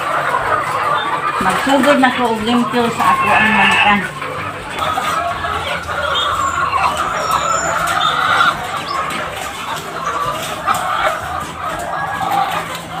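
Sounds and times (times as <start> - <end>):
hens clucking: 0.0 - 13.0
hens squawking: 0.0 - 13.0.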